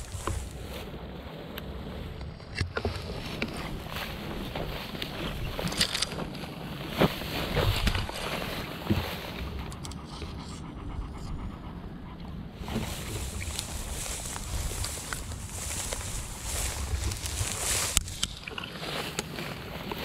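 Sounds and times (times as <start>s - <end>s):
dry grass rustling: 0.0s - 10.5s, 12.6s - 20.0s
wind buffeting microphone: 0.0s - 18.5s.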